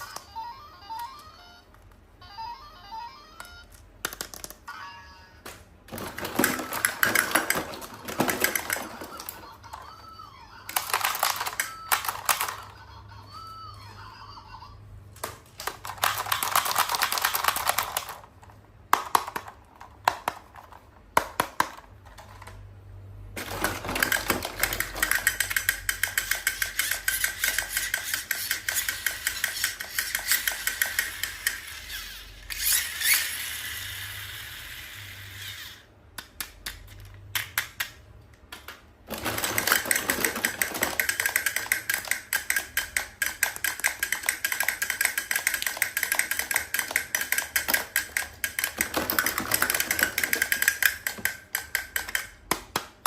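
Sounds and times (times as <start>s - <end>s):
plastic pieces clicking and tapping: 3.4s - 4.7s, 5.4s - 9.9s, 10.7s - 12.8s, 15.2s - 22.7s, 23.3s - 33.2s, 35.4s - 53.0s.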